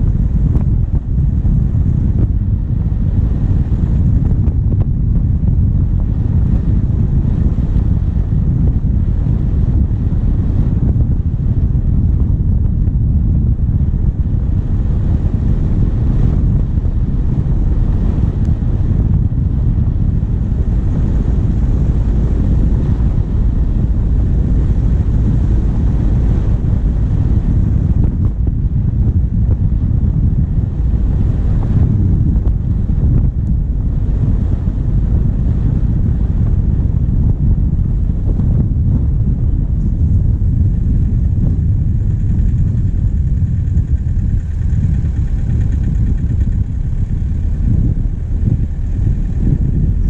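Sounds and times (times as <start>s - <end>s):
diesel engine running: 0.0s - 50.0s
wind rumble on microphone: 0.0s - 50.0s.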